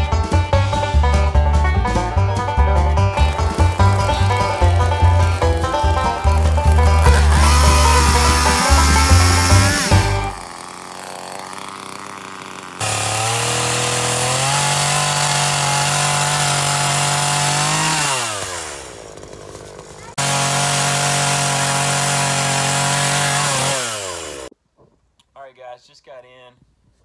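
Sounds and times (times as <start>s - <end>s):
chainsaw revving and cutting: 2.8s - 24.5s.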